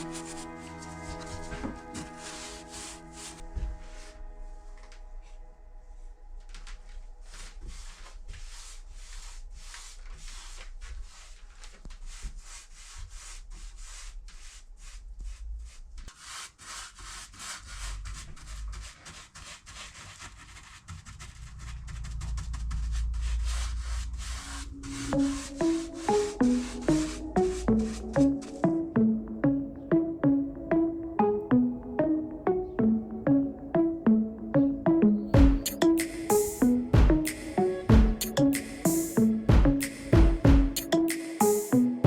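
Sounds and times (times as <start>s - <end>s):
hand rubbing wooden boards: 0.0s - 4.1s, 7.2s - 42.0s.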